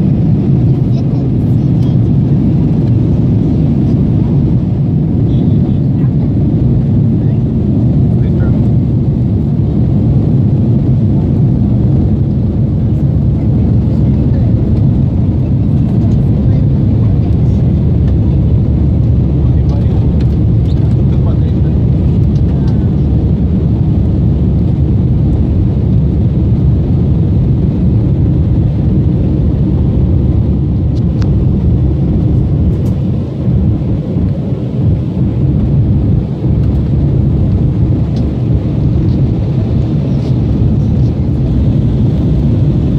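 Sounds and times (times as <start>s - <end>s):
jet engines roaring in cabin: 0.0s - 42.9s.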